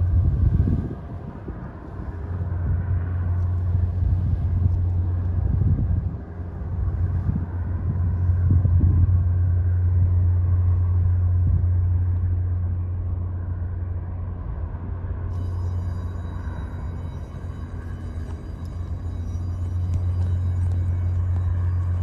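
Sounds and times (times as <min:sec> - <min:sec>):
ship engine low rumble: 0:00.0 - 0:22.0.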